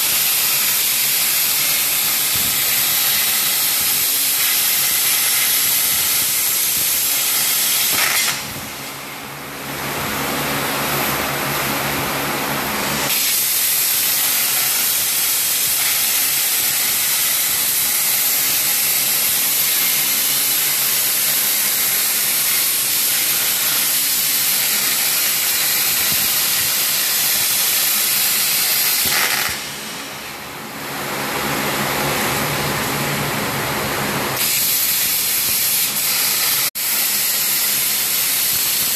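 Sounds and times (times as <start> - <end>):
machine loud steady hiss: 0.0 - 38.9.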